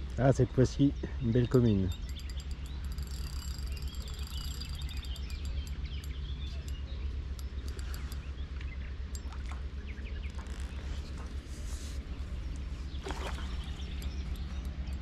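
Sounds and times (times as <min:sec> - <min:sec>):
small birds chirping and singing: 0:00.0 - 0:15.0
steady low rumble: 0:00.0 - 0:15.0.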